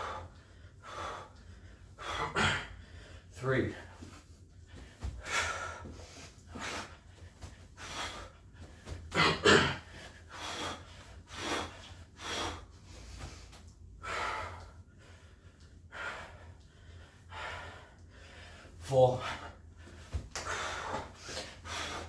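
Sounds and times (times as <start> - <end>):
man gasping breaths: 0.0 - 22.0.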